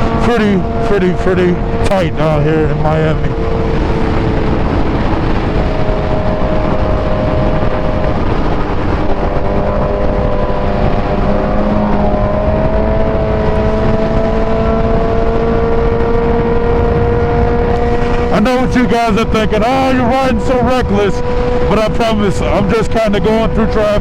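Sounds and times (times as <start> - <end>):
motorcycle engine riding: 0.0 - 24.0
wind rush on microphone: 0.0 - 24.0.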